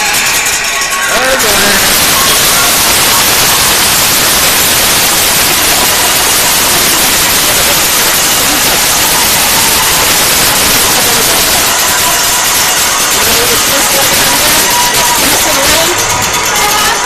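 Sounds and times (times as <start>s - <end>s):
loud static hiss: 0.0s - 17.0s.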